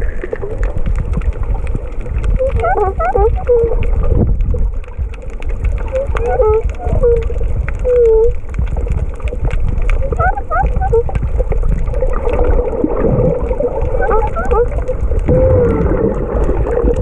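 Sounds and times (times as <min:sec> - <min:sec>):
crackling clicks: 0:00.0 - 0:17.0
underwater low rumble: 0:00.0 - 0:17.0.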